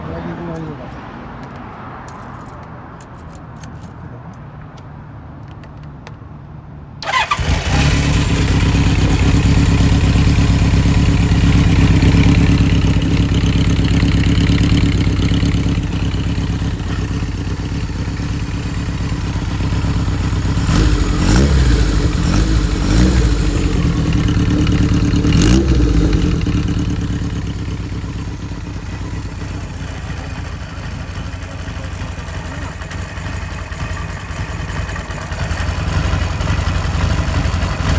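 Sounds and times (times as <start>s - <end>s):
motorcycle engine idling and revving: 7.0s - 37.9s.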